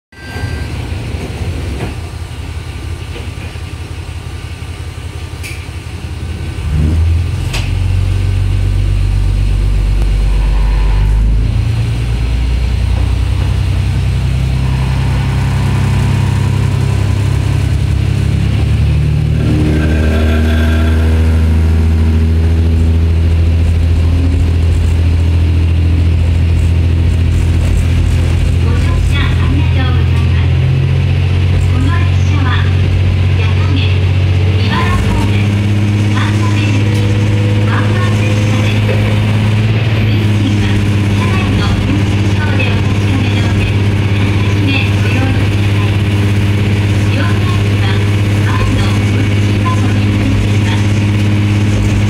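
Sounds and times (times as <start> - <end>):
diesel railcar engine: 0.1 - 52.0.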